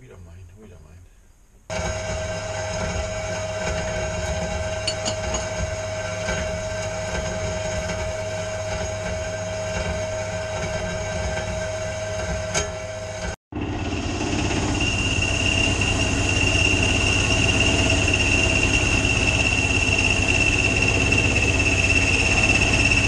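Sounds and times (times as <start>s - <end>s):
power saw cutting steel: 1.7s - 13.4s, 14.1s - 23.0s.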